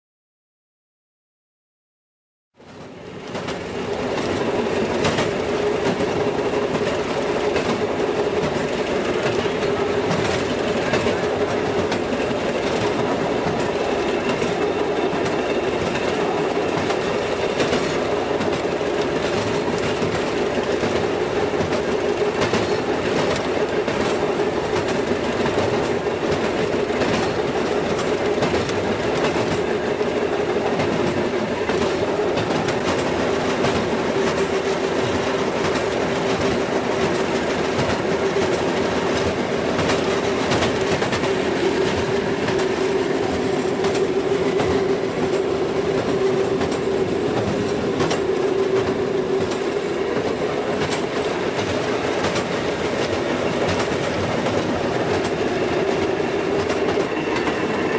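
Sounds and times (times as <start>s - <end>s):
wheels clattering over rails: 3.2s - 57.9s.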